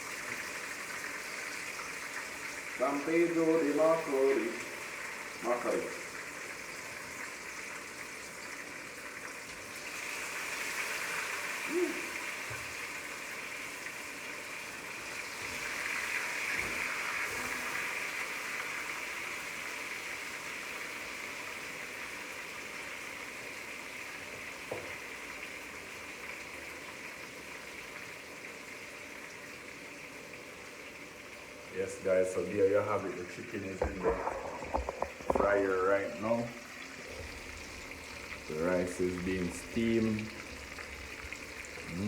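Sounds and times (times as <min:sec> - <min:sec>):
chicken sizzling in hot oil: 0:00.0 - 0:42.0.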